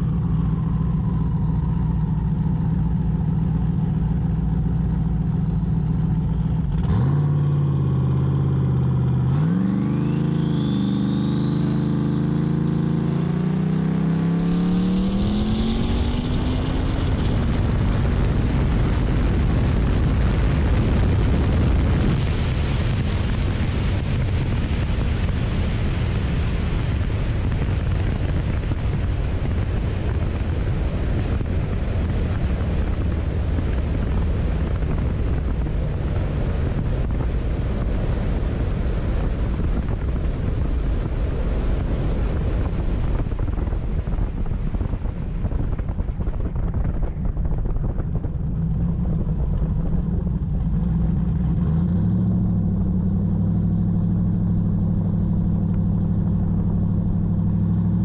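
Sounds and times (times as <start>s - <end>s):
car engine idling and revving: 0.0s - 58.0s
high turbo whine: 0.0s - 58.0s
wind and road noise: 0.0s - 58.0s.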